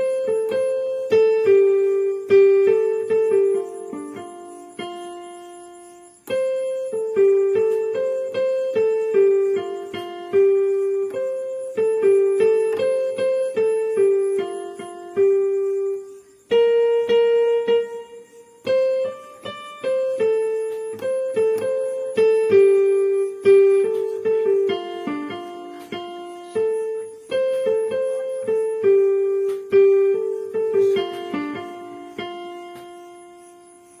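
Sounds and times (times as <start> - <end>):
electric piano ringtone melody: 0.0 - 34.0.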